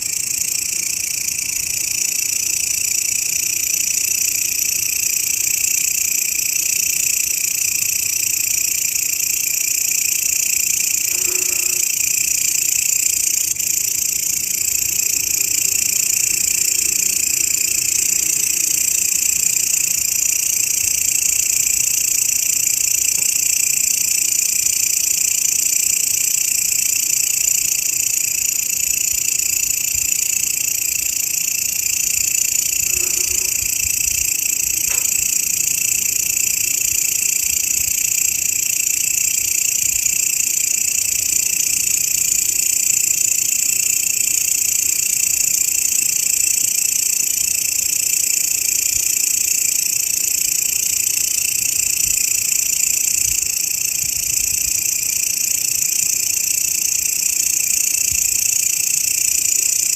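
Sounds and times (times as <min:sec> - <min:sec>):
grasshopper stridulating: 0:00.0 - 0:59.9.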